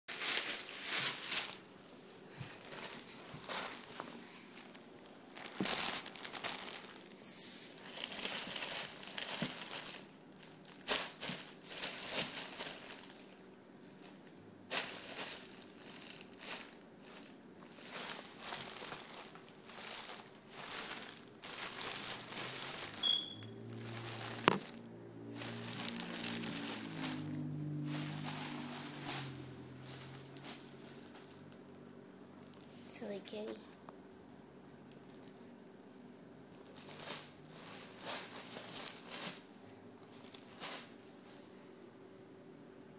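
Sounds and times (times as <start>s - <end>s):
plastic bag crinkling: 0.1s - 31.8s, 32.4s - 32.7s, 36.5s - 41.5s.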